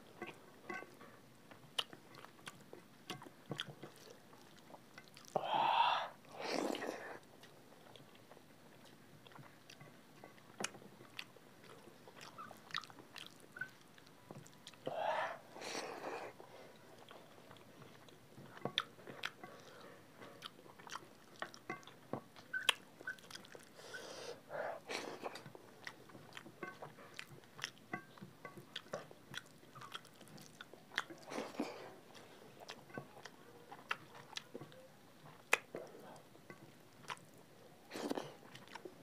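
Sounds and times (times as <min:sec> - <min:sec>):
people chewing food: 0:00.0 - 0:39.0.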